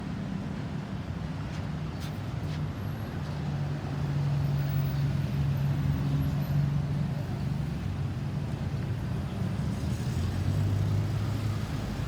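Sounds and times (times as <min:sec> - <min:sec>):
road traffic noise: 0:01.5 - 0:12.0.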